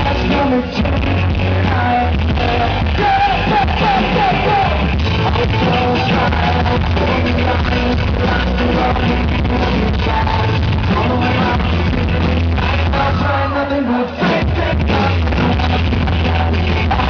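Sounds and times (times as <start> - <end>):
live rock band: 0.0 - 17.0
person singing: 0.0 - 17.0.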